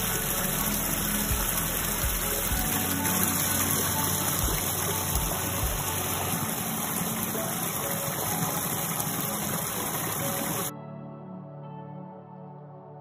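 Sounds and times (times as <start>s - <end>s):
stream flowing over stones: 0.0s - 10.7s.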